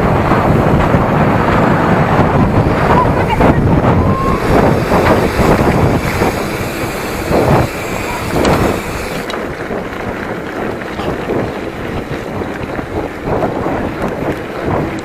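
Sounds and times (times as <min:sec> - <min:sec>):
bike frame rattling: 0:00.0 - 0:15.0
wind buffeting microphone: 0:00.0 - 0:15.0.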